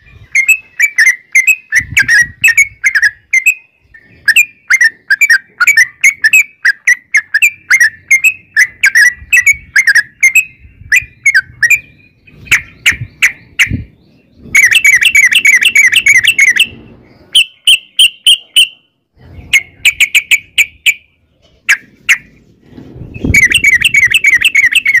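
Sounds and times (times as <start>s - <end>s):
bulbul singing rapid chirps: 0.0s - 22.3s, 23.0s - 25.0s.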